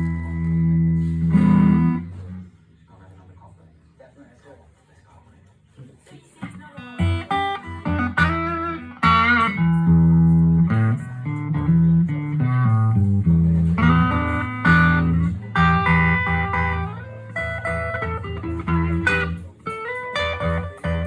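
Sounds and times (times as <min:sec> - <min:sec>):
electric guitar through amplifier: 0:00.0 - 0:02.8, 0:06.4 - 0:21.0.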